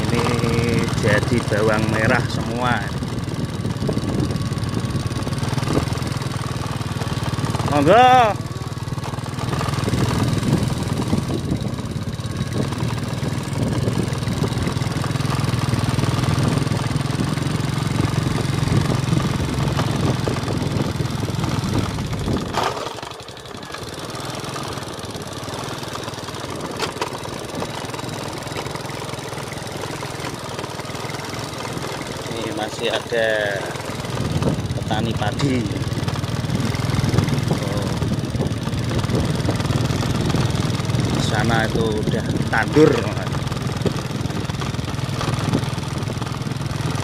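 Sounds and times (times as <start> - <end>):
small motorcycle engine running: 0.0 - 47.0.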